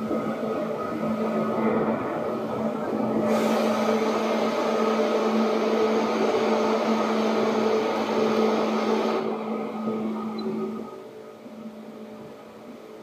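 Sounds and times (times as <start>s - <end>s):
electric train running on board: 0.0s - 13.0s.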